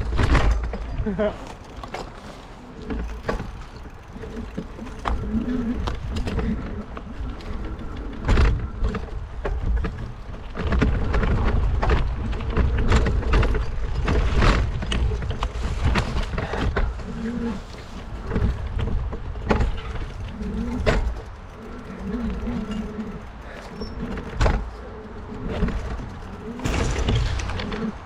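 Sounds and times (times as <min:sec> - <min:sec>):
bikes rumbling over rough trail: 0:00.0 - 0:28.0.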